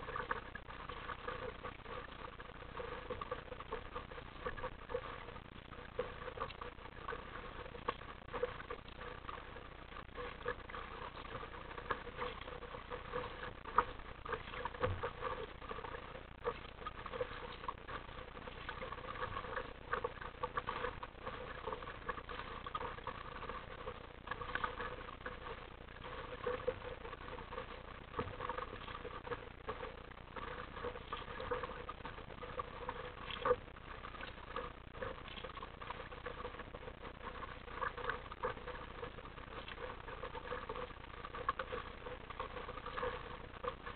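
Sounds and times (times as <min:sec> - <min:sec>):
water slapping kayak hull: 0:00.0 - 0:43.9.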